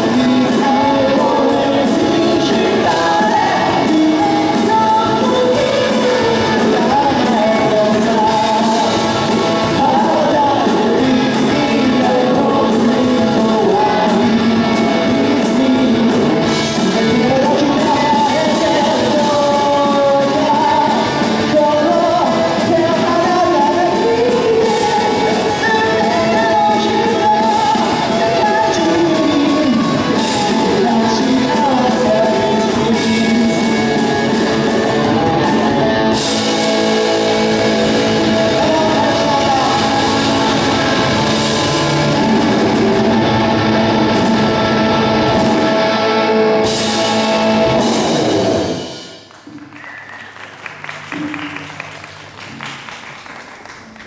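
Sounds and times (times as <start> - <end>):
person singing: 0.0 - 48.8
live rock band playing: 0.0 - 54.0.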